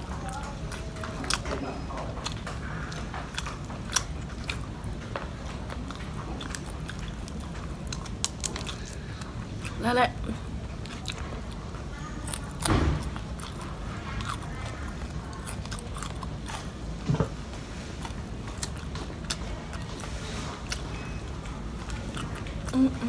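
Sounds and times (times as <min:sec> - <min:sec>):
person chewing crispy food: 0:00.0 - 0:23.0.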